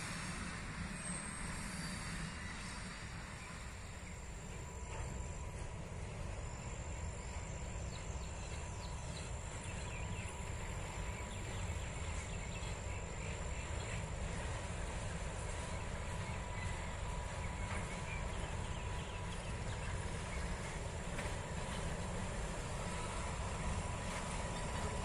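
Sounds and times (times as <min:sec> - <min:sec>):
faint insect chirping: 0:01.0 - 0:21.1.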